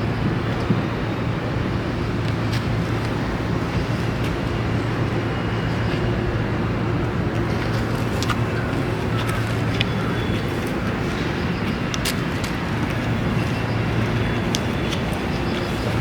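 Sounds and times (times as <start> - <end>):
outdoor rumble: 2.2 - 16.0.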